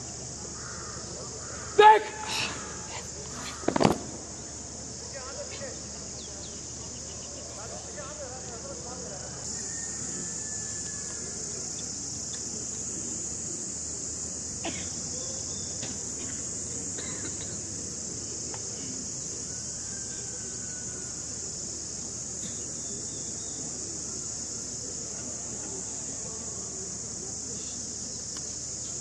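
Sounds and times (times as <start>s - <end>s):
high-pitched hiss or drone: 0.0s - 29.0s.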